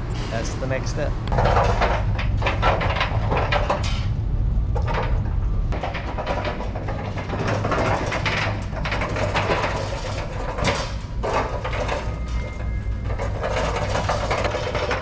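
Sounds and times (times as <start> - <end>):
cart casters rumbling on concrete: 0.0 - 15.0
cart clattering and rattling: 0.0 - 15.0.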